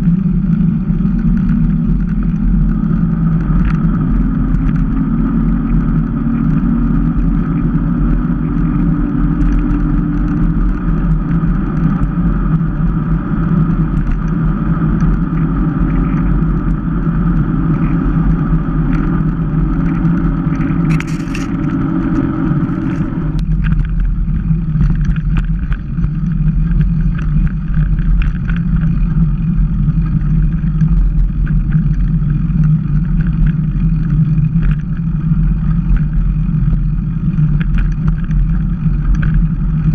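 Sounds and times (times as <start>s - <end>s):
bike tyres rolling: 0.0s - 39.9s
wind rushing over microphone: 0.0s - 39.9s.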